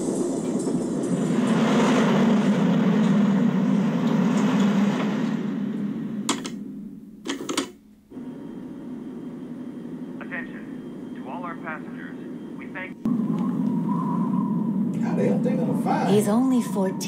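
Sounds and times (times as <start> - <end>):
hum with faint high tone: 0.0 - 17.0
train carriage rumble: 0.0 - 17.0.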